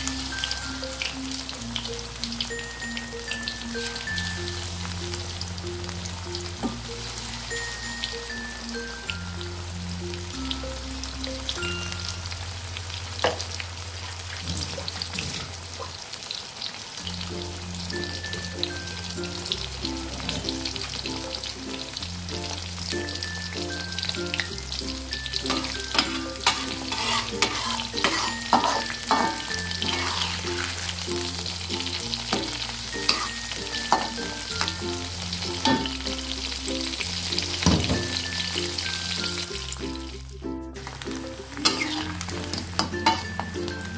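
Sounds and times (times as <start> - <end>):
background music with slow bass: 0.0 - 14.3, 17.0 - 43.9
shrimp deep-frying with sizzle: 0.0 - 43.9.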